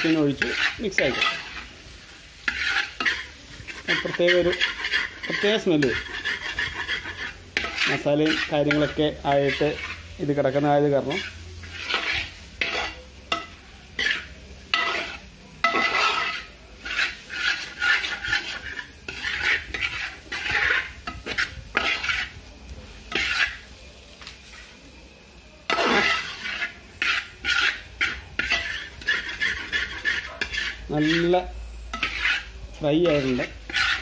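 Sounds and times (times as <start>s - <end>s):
ladle scraping and stirring in pan: 0.0s - 34.0s.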